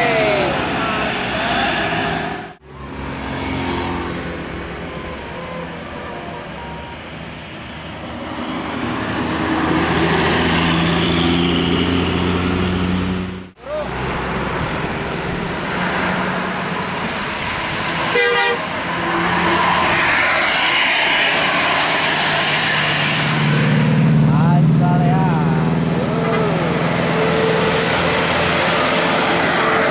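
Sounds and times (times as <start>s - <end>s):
vehicles driving past: 0.0s - 29.9s.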